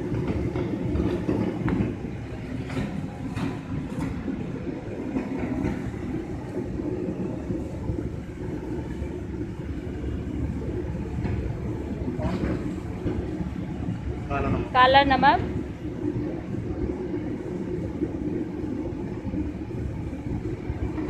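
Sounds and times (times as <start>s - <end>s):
low rumble of street noise: 0.0s - 21.0s.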